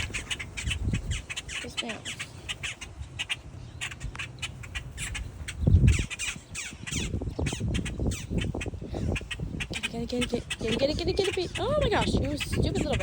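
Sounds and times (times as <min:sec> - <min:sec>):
birds squawking and calling: 0:00.0 - 0:13.0.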